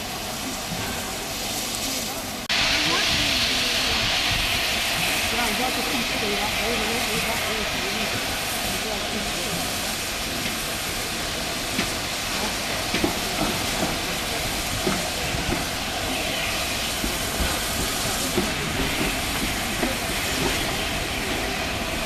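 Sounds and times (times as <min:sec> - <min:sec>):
steam locomotive hissing: 0:00.0 - 0:22.0
train wheels and couplings clanking: 0:00.0 - 0:22.0.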